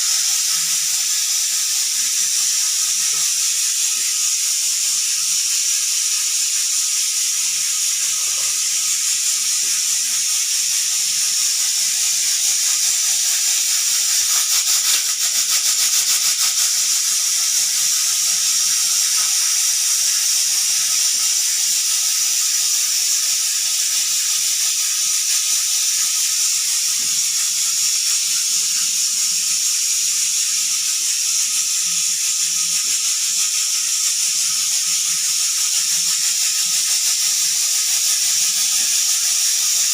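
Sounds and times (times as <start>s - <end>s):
pressure cooker hissing steam: 0.0s - 39.9s.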